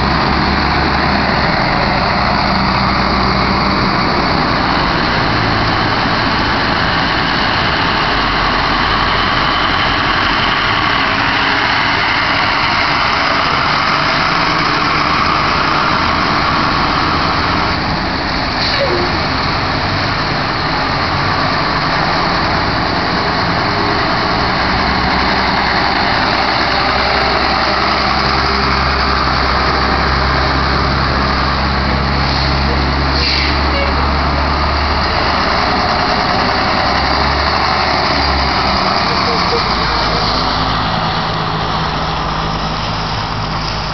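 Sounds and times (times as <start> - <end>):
bus engines rumbling: 0.0 - 43.9.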